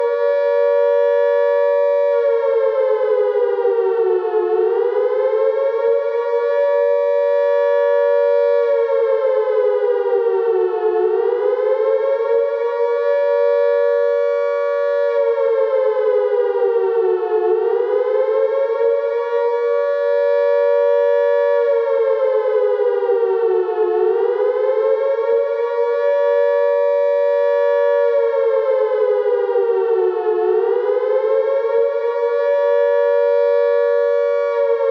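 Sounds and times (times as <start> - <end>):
siren wailing: 0.0 - 34.9.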